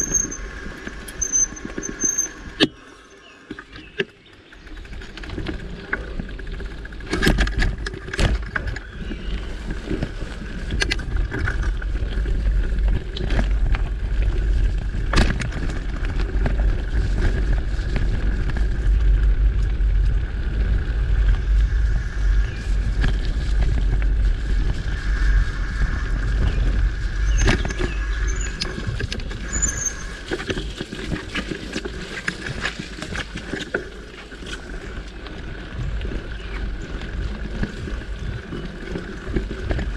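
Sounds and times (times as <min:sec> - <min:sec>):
bike rattling and knocking: 0:00.0 - 0:02.8, 0:03.6 - 0:39.9
tyres rolling on dirt: 0:00.0 - 0:39.9
wind buffeting microphone: 0:03.8 - 0:39.9.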